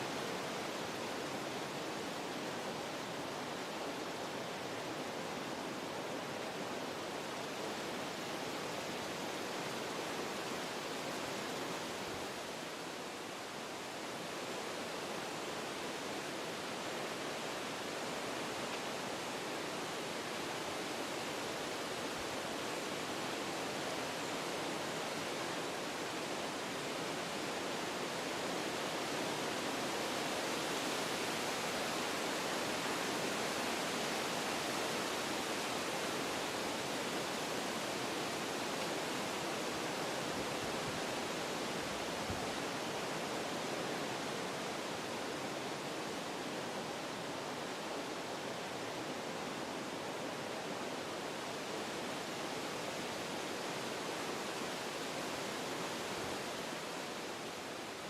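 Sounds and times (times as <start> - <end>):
wind through trees: 0.0 - 58.0.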